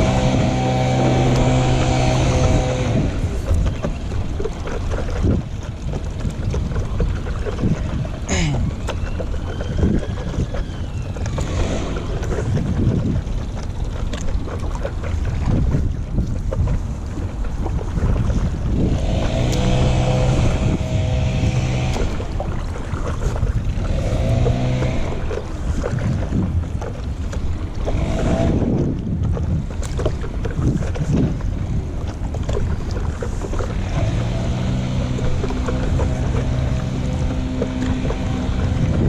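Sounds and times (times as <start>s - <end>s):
water splashing from paddle strokes: 0.0s - 39.0s
wind buffeting microphone: 0.0s - 39.0s.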